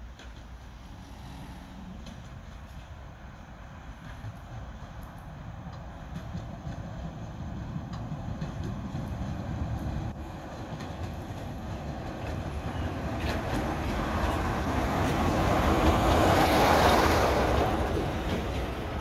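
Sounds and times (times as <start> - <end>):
diesel locomotive engine: 0.0 - 19.0.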